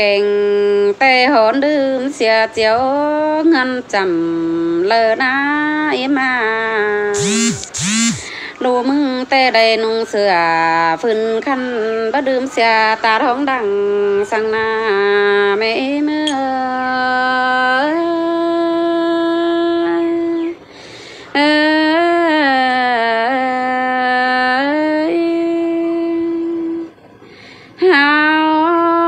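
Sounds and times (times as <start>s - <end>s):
woman singing unaccompanied: 0.0s - 29.0s.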